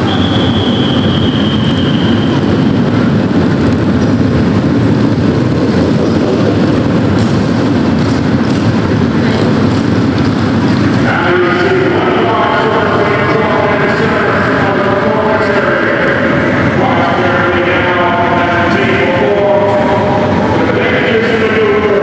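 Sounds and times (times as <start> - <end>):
motorcycle engines rumbling: 0.0 - 22.0
thin high whine: 0.0 - 22.0.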